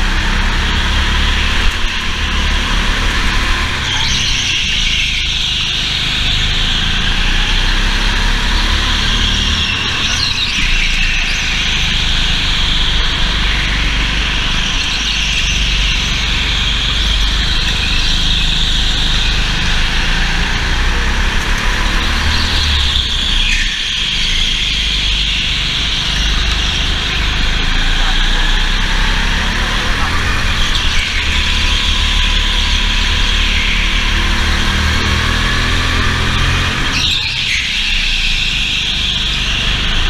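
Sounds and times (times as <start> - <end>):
kart engine running hard: 0.0 - 40.0
tyre squeals: 0.0 - 40.0.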